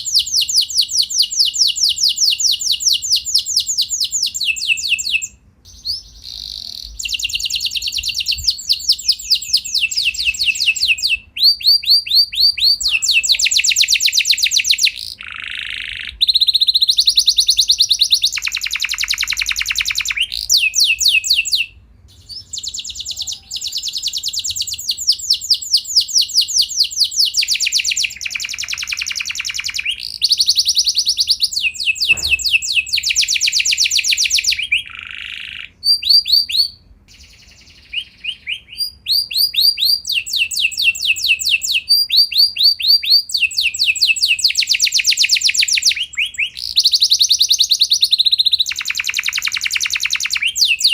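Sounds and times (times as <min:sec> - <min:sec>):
canary singing trills: 0:00.0 - 0:50.9.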